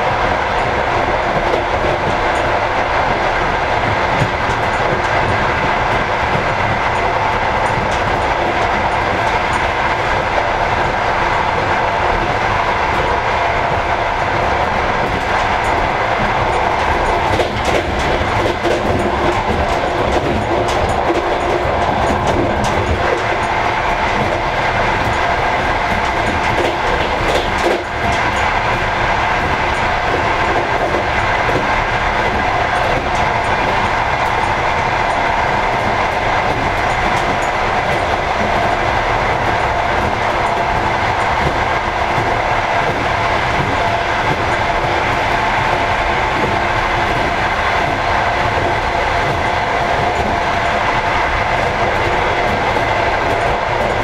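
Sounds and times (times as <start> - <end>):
train wheels on track: 0.0 - 54.0.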